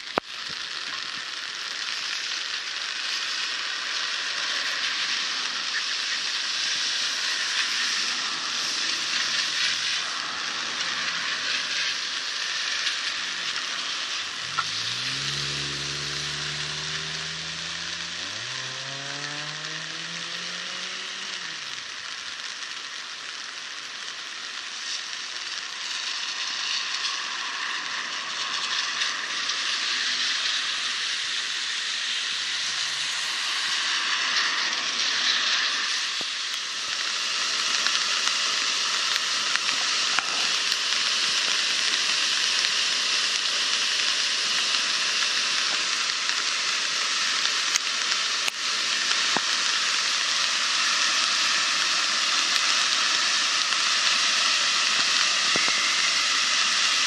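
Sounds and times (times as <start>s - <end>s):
floodwater rushing down a creek: 0.0s - 57.0s
water gushing from a culvert: 0.0s - 57.0s.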